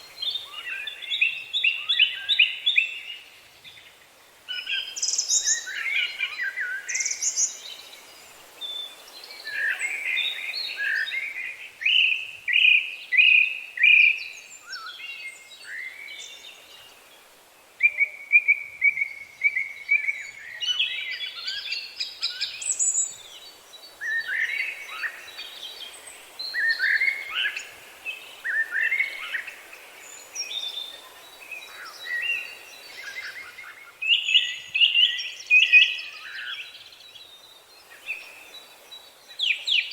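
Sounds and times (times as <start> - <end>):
outdoor background hiss: 0.0 - 39.9
songbirds singing and chirping: 0.0 - 39.9.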